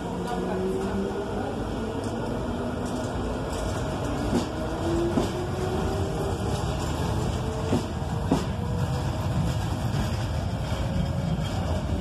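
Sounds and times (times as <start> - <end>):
electric railcar rolling past: 0.0 - 12.0.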